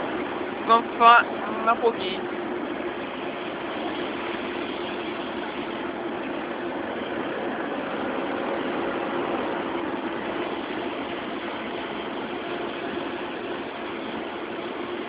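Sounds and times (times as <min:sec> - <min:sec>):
diesel engine droning: 0:00.0 - 0:15.0
road noise: 0:00.0 - 0:15.0.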